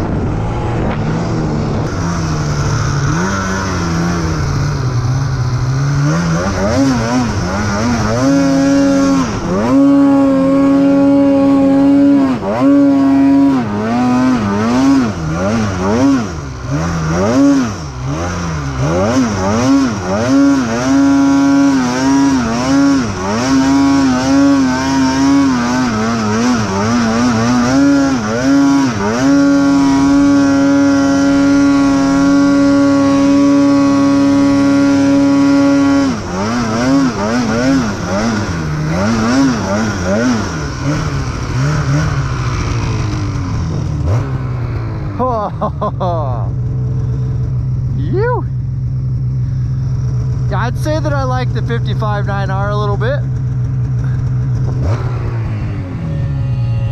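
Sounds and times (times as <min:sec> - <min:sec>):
snowmobile engine revving: 0:00.0 - 0:56.9.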